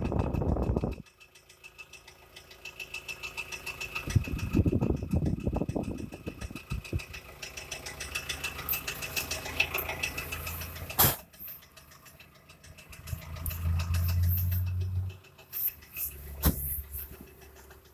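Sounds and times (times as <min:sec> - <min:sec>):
diesel engine idling with ticking knock: 0:00.0 - 0:17.9.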